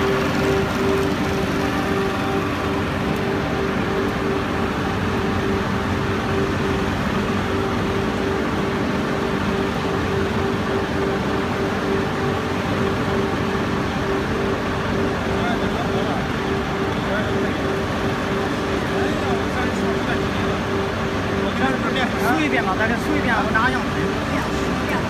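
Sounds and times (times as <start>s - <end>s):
pulsing machinery hum: 0.0s - 25.0s.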